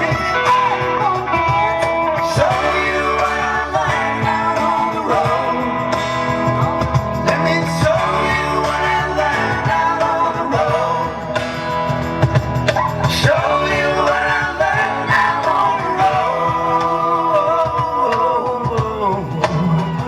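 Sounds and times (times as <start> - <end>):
man singing long notes: 0.0 - 11.5, 13.0 - 20.0
rock band with amplified guitar: 0.0 - 20.0.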